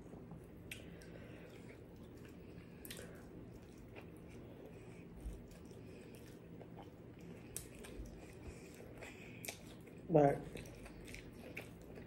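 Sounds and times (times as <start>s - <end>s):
quiet chewing: 0.1s - 12.0s.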